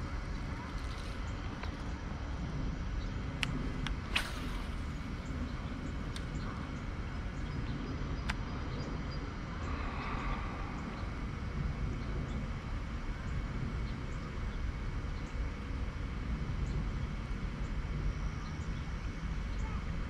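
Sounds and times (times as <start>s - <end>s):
low outdoor background rumble: 0.0s - 20.0s.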